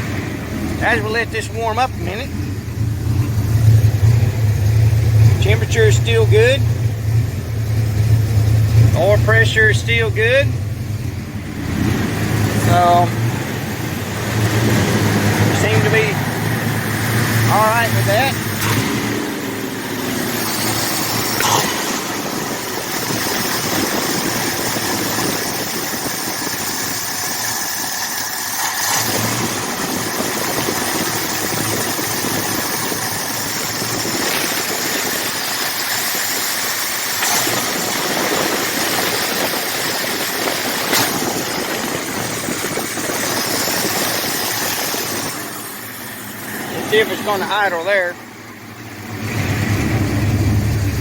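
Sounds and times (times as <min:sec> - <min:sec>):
truck engine running: 0:00.0 - 0:51.0.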